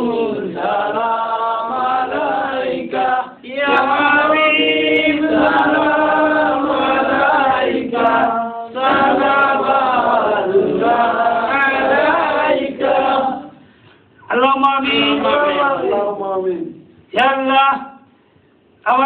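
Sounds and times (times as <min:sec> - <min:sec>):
men chanting in unison: 0:00.0 - 0:13.6, 0:14.3 - 0:16.3.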